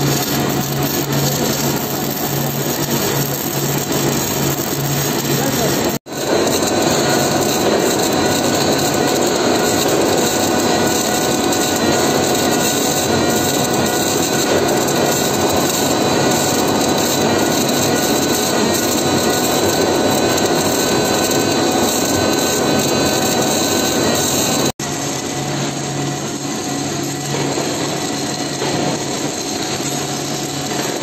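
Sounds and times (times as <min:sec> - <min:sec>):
welding arc crackling hiss: 0:00.0 - 0:31.0.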